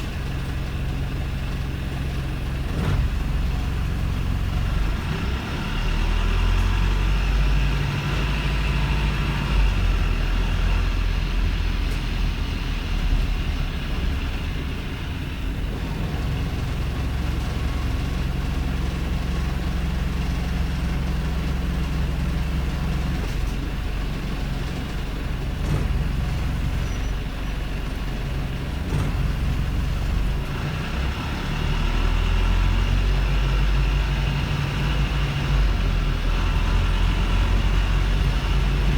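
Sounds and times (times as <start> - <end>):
diesel bus engine running: 0.0 - 38.9.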